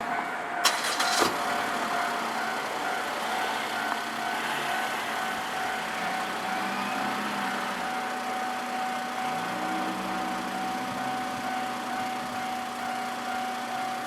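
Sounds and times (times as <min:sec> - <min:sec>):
level crossing alarm ringing: 0:00.0 - 0:14.0
vehicle noise: 0:00.0 - 0:14.0.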